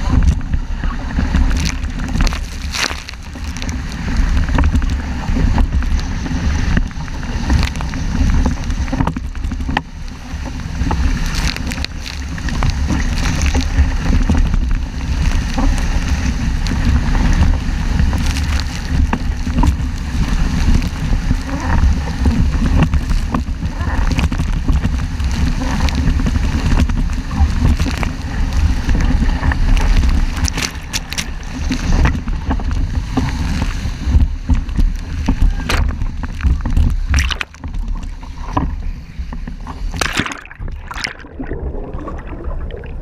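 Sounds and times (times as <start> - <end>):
water slapping: 0.0 - 43.0
water sloshing along hull: 0.0 - 43.0
wind buffeting microphone: 0.0 - 43.0.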